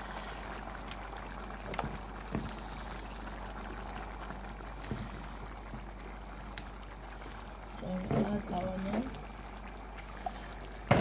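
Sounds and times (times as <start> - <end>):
pot bubbling and hissing: 0.0 - 11.0.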